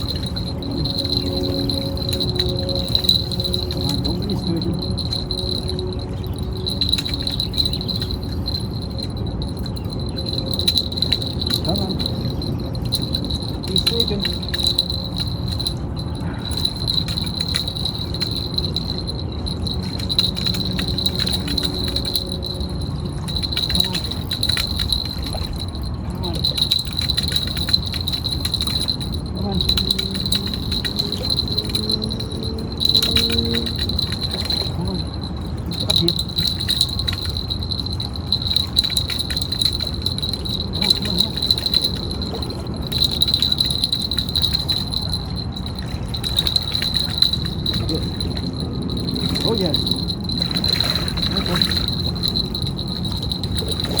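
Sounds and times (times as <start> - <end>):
fishing reel cranking whine: 0.0 - 54.0.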